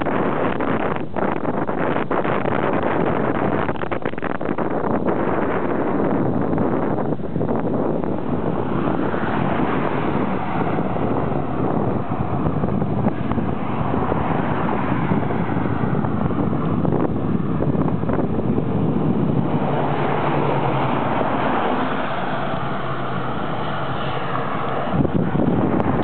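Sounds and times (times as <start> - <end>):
road and traffic rumble: 0.0 - 26.0
wind rushing over microphone: 0.0 - 26.0.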